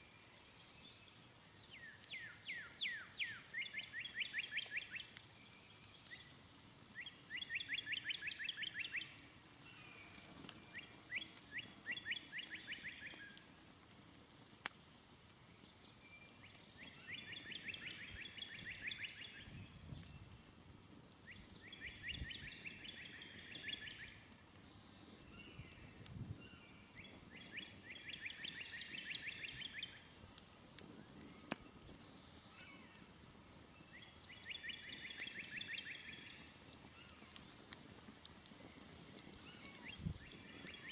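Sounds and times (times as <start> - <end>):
campfire popping: 0.0 - 40.9.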